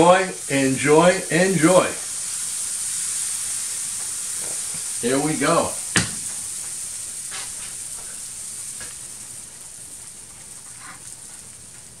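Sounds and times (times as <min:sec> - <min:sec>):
pancake batter sizzling in pan: 0:00.0 - 0:12.0.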